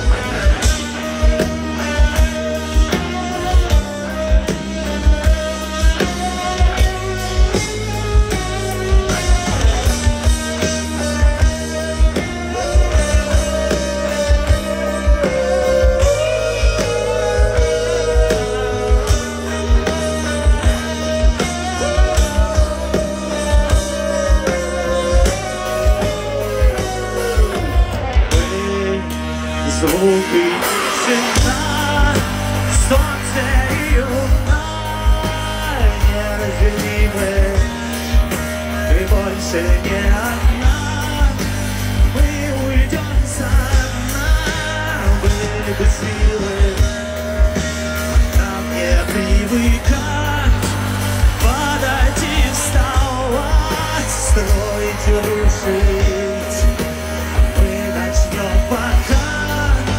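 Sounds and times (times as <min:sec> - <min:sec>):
held lead guitar notes: 0:00.0 - 0:59.9
live rock band playing: 0:00.0 - 0:59.9.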